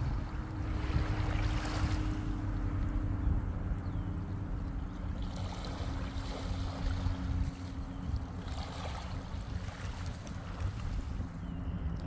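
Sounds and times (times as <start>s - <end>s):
small waves lapping: 0.0s - 3.0s, 4.1s - 11.5s
wind rumbling on microphone: 0.0s - 12.0s.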